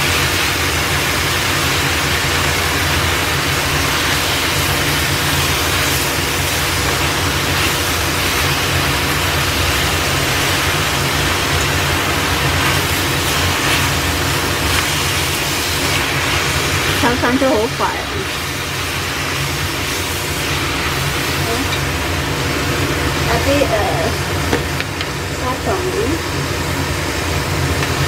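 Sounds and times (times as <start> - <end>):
lettuce sizzling in hot oil: 0.0 - 28.0.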